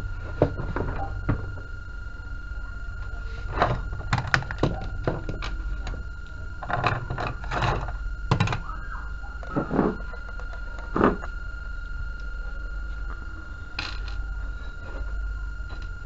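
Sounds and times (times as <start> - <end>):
faint high whine: 0.0 - 16.0
low electrical hum: 0.0 - 16.0.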